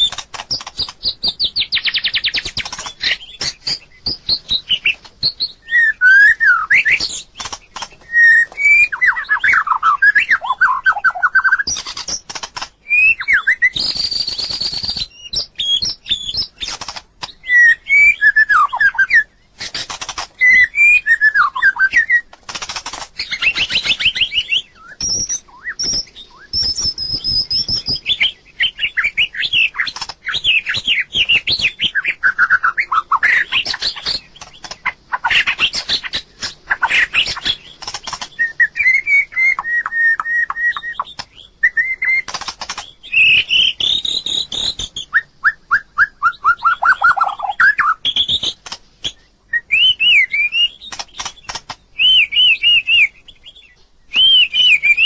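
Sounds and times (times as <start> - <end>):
bird singing with whistles and trills: 0.0 - 22.4, 23.2 - 55.0
sharp bird clicks: 0.0 - 55.0.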